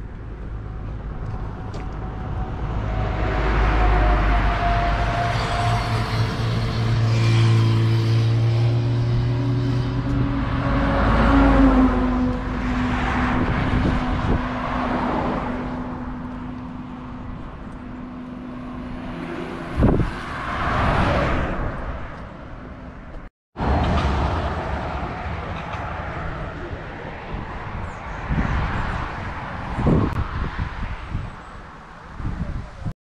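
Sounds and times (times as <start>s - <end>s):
cars driving by: 0.0s - 32.5s.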